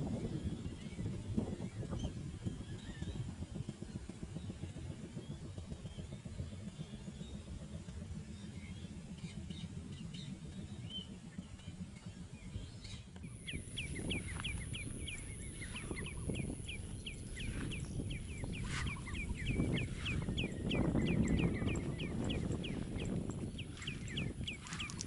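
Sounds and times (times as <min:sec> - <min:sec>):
high whine: 0:00.0 - 0:25.0
low rumble: 0:00.0 - 0:25.0
birds chirping: 0:04.6 - 0:25.0.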